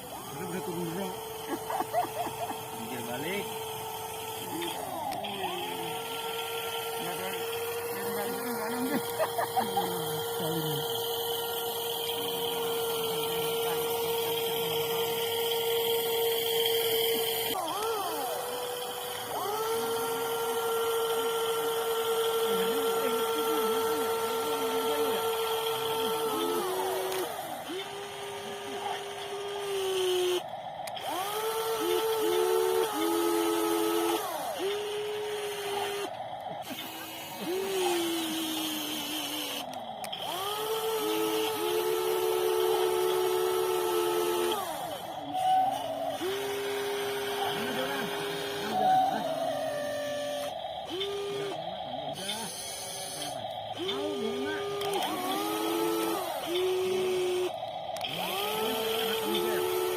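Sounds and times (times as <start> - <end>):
electric motors whining: 0.0 - 59.9.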